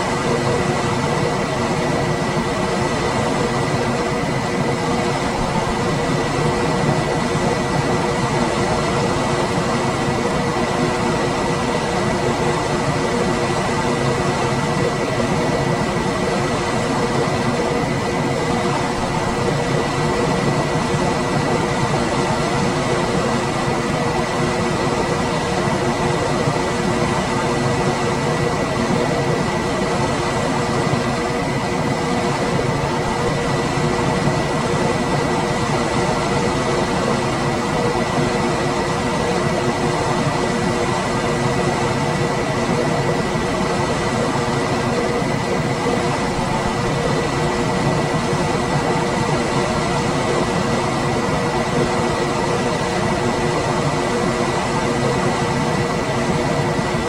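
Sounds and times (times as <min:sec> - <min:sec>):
air conditioner running: 0:00.0 - 0:57.0.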